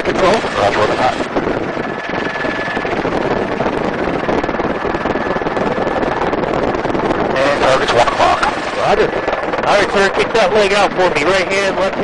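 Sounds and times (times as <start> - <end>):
helicopter engine and rotor: 0.0 - 12.0
wind rushing over microphone: 0.0 - 12.0.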